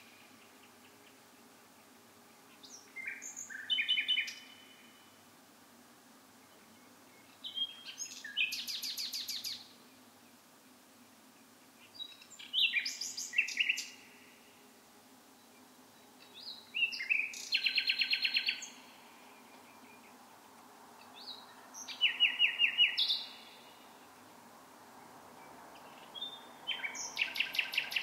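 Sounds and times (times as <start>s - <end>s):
songbird singing trills: 0.0s - 5.2s, 6.4s - 14.6s, 15.3s - 24.3s, 25.0s - 28.0s.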